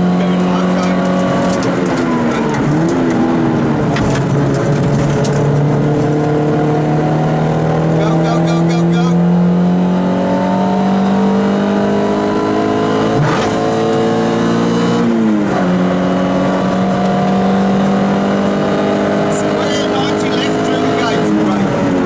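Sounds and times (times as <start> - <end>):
car engine revving from cabin: 0.0 - 22.0.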